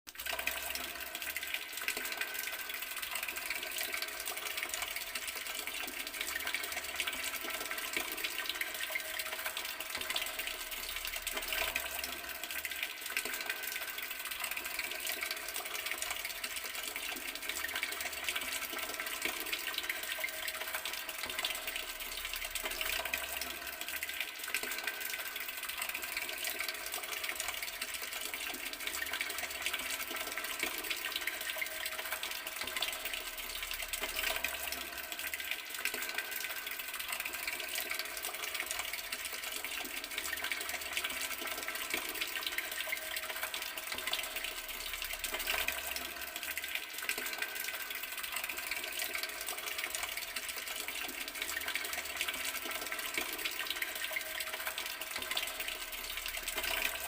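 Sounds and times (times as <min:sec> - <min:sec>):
water running from garden tap: 0:00.1 - 0:57.0.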